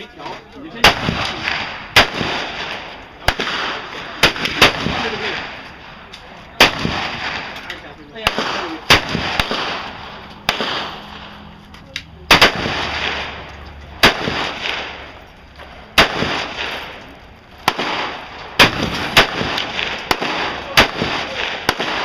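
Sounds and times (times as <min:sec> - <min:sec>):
gunshots with ringing echo: 0:00.8 - 0:11.5, 0:12.2 - 0:22.0.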